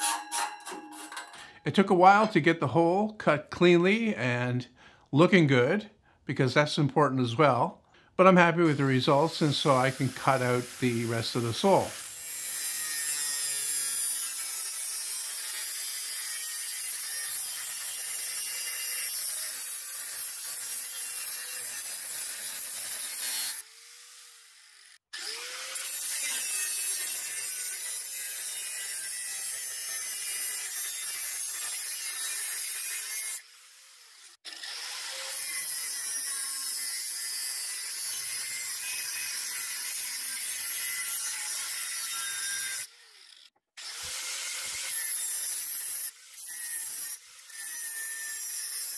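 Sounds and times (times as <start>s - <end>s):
angle grinder cutting steel: 0.0s - 1.7s, 8.4s - 48.9s.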